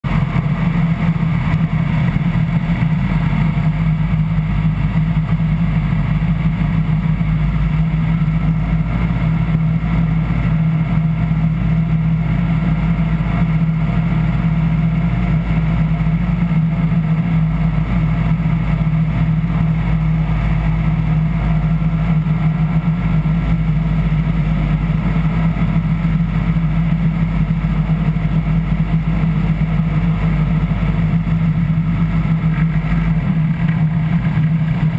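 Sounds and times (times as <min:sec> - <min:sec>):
light aircraft engine droning: 0:00.0 - 0:34.9.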